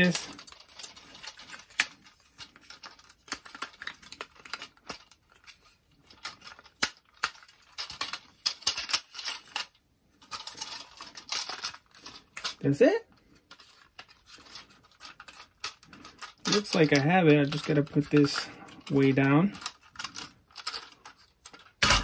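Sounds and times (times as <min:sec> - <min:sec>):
plastic toy parts clicking: 0:00.0 - 0:12.6, 0:13.5 - 0:22.0
plastic parts rattling: 0:00.0 - 0:22.0.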